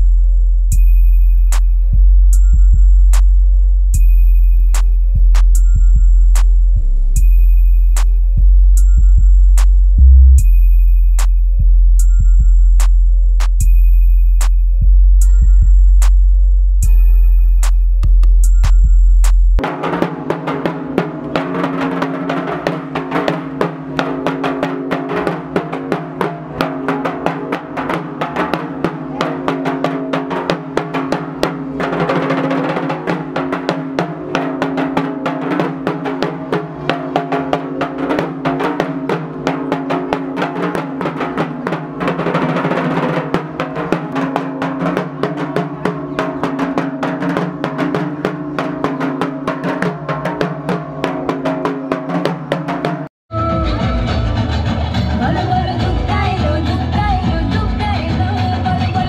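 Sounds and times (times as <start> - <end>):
fast drumming: 0.0 - 10.6, 16.8 - 59.0.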